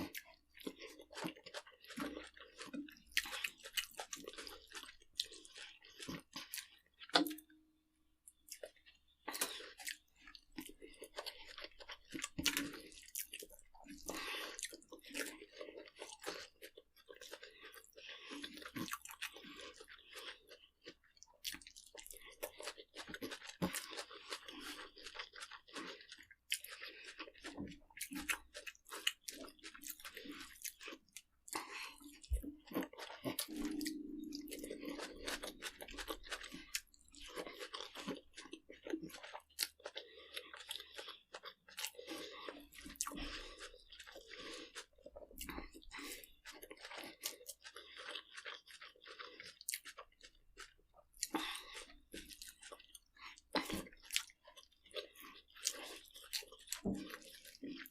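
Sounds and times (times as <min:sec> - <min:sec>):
close-up crunching: 0:00.0 - 0:07.5, 0:08.2 - 0:57.9.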